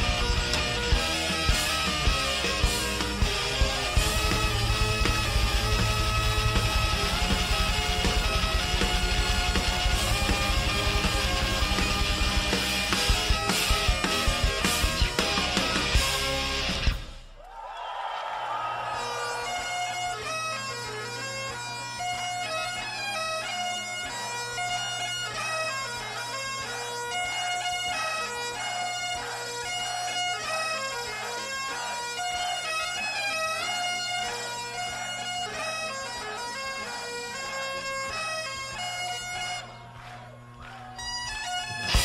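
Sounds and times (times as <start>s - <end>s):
bagpipe drone: 0.0s - 16.8s, 19.0s - 39.9s
bagpipes melody: 0.0s - 16.9s, 19.0s - 39.9s, 41.0s - 42.0s.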